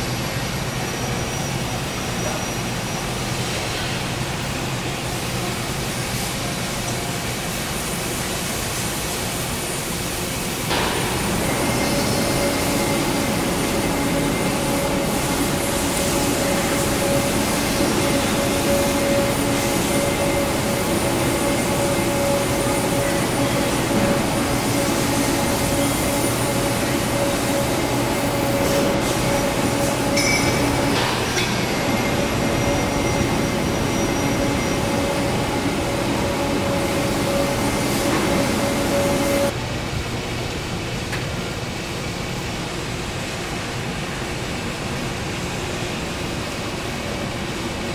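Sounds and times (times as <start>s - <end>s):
factory machinery running: 0.0s - 47.9s.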